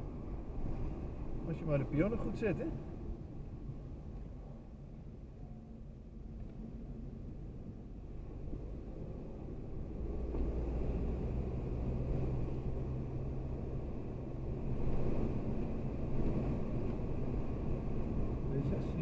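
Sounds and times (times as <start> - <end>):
car engine and tyre hum: 0.0 - 19.0.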